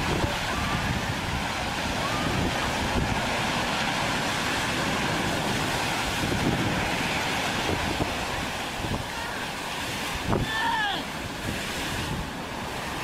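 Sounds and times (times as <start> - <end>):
heavy surf breaking: 0.0 - 13.0
wind buffeting microphone: 0.0 - 13.0.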